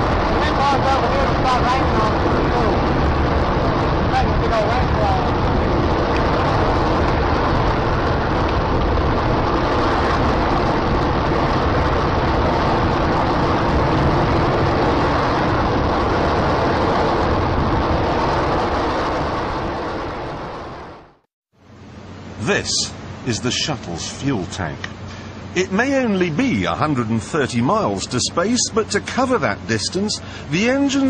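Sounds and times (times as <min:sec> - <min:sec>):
rocket engine roaring: 0:00.0 - 0:21.2, 0:22.0 - 0:31.0.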